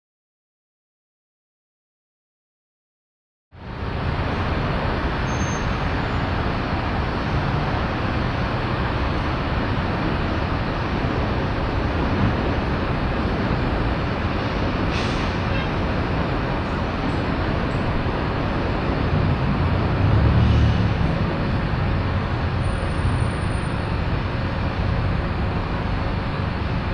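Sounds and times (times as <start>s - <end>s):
distant traffic rumble: 3.6s - 26.9s.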